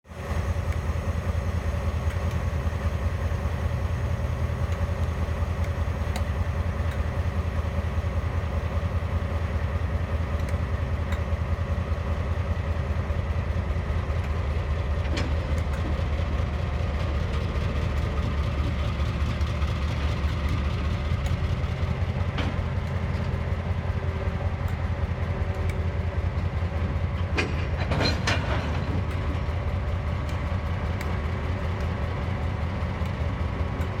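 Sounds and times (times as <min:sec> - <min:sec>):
diesel locomotives idling: 0:00.1 - 0:34.0.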